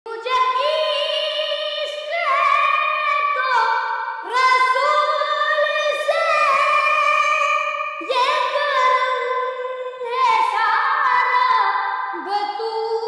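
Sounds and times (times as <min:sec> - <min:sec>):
boy singing in a high voice: 0:00.1 - 0:13.0.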